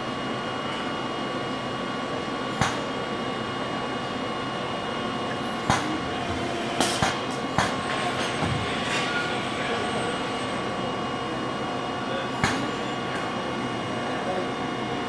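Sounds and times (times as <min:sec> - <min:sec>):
faint machine whines: 0:00.0 - 0:15.0.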